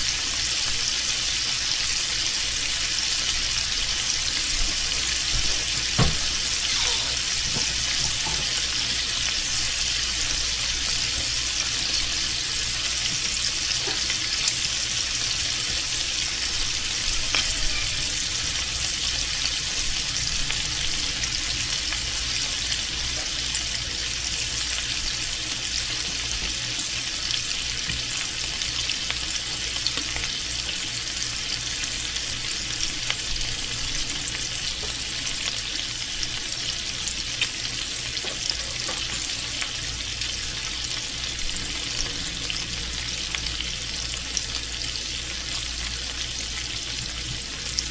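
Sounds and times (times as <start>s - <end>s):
bacon sizzling in a pan: 0.0s - 47.9s.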